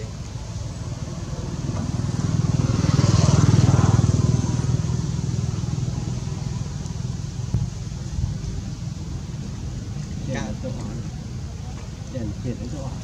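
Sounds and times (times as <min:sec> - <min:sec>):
vehicle engine passing by: 0:00.0 - 0:11.2.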